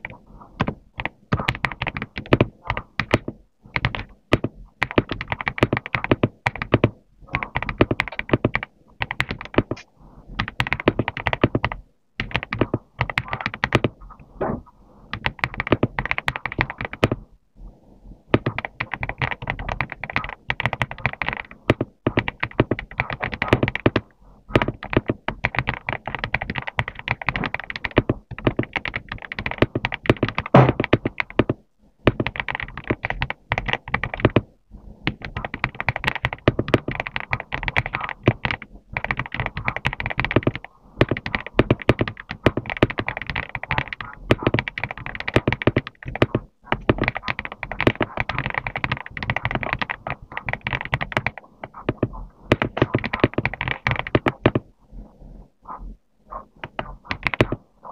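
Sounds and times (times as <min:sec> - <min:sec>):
mechanical keyboard typing: 0:00.0 - 0:14.1, 0:15.1 - 0:17.2, 0:18.3 - 0:54.7, 0:56.3 - 0:57.9.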